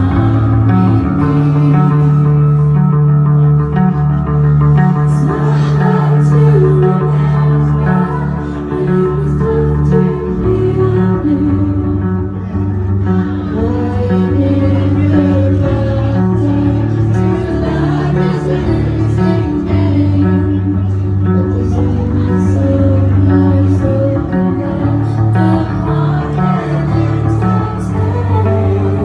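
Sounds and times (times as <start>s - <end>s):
woman singing: 0.0s - 2.6s, 4.9s - 12.4s, 13.5s - 29.0s
electric bass guitar: 0.0s - 29.0s
guitar: 0.0s - 29.0s.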